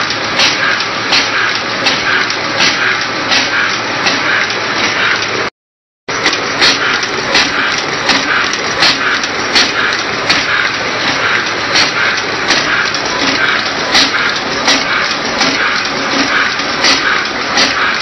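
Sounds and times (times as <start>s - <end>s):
machine mechanical clacks: 0.0s - 5.5s, 6.1s - 18.0s
machine whirring: 0.0s - 5.5s, 6.1s - 18.0s.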